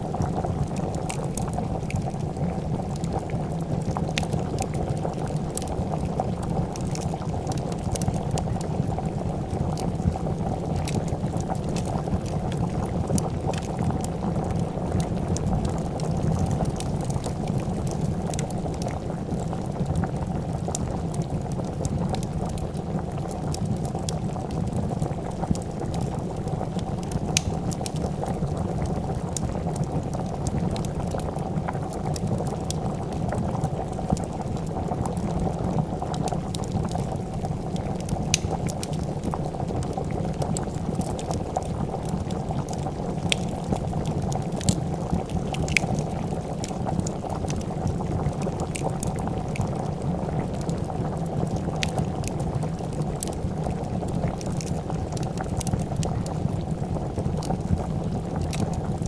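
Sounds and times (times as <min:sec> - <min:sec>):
soup bubbling at a boil: 0:00.0 - 0:59.0
wood fire crackling: 0:00.0 - 0:59.0.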